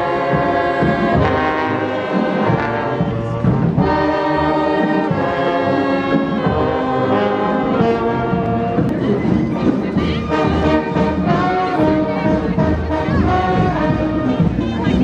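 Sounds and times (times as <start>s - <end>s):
brass street band playing: 0.0s - 15.0s.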